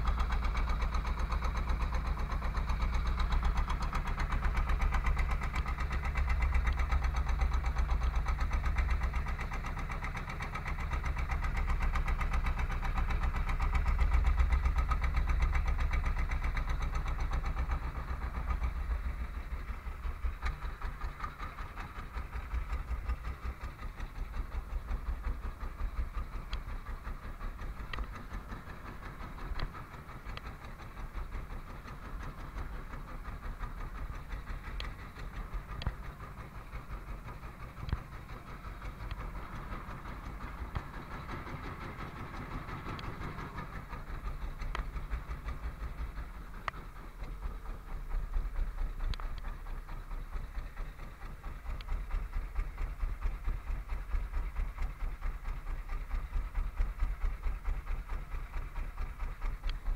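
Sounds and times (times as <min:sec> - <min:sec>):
boat engine throbbing: 0:00.0 - 0:59.9.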